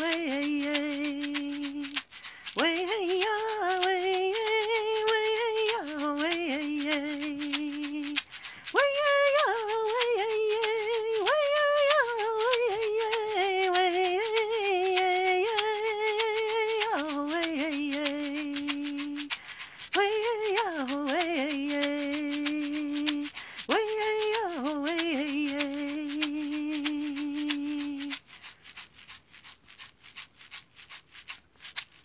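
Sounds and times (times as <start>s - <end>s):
woman singing wordless melody: 0.0s - 28.2s
hand rattle shaking: 0.0s - 32.0s.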